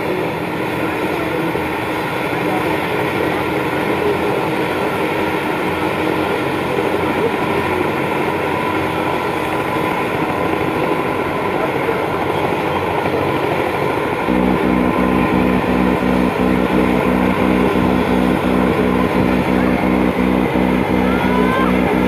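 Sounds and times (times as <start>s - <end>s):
helicopter turbine and rotor: 0.0s - 22.0s.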